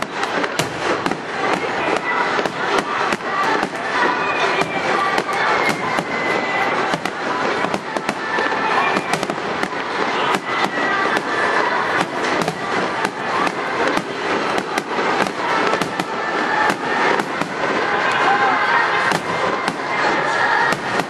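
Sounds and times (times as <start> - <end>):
continuous fireworks crackle: 0.0 - 21.0
fireworks cracking: 0.0 - 21.0.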